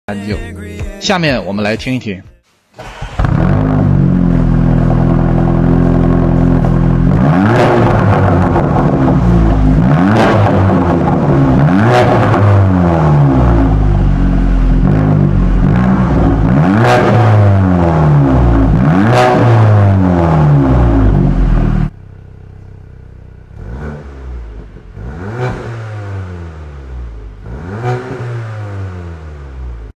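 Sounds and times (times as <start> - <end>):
car engine revving: 2.8 - 29.9.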